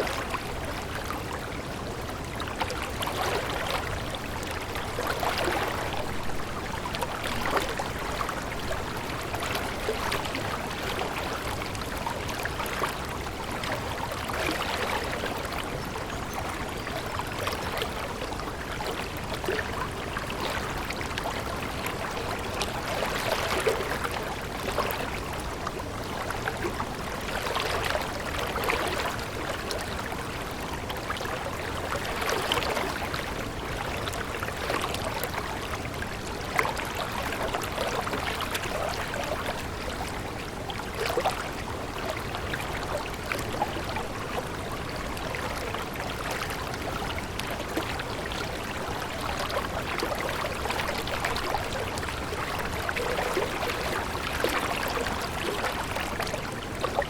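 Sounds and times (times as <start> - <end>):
stream water running and trickling: 0.0 - 57.0.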